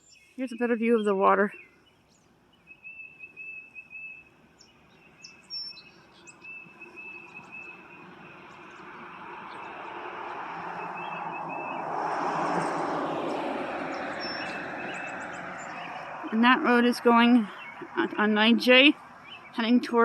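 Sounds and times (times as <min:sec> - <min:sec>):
songbirds trilling and chirping: 0:00.0 - 0:20.0.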